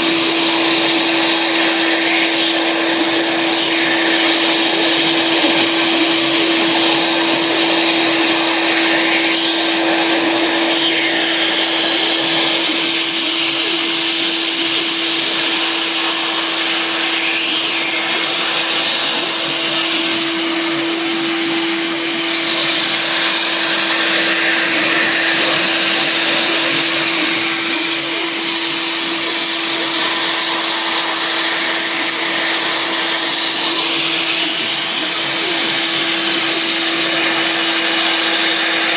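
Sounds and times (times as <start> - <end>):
cutter milling wood hiss: 0.0 - 38.9
spindle motor whine: 0.0 - 38.9.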